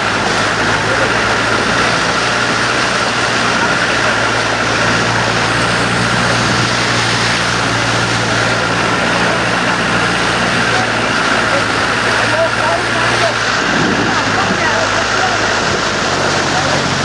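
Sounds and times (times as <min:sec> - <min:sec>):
engine running steadily: 0:00.0 - 0:17.0
loud rushing noise: 0:00.0 - 0:17.0.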